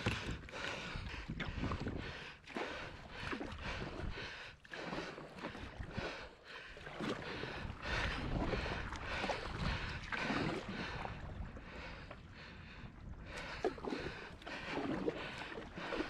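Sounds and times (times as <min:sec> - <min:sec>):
paddle splashing in water: 0:00.0 - 0:12.3, 0:13.2 - 0:16.0
water sloshing against hull: 0:00.0 - 0:16.0.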